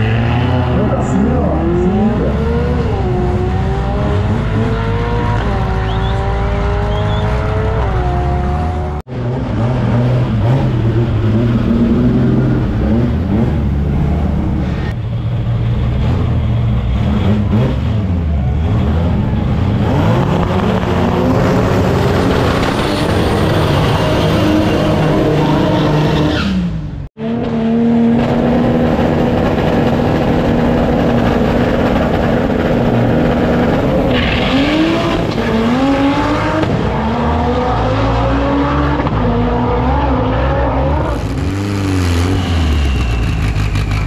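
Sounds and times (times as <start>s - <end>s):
car engine at high revs: 0.0s - 15.0s, 15.8s - 44.0s
car engine accelerating: 0.0s - 44.0s.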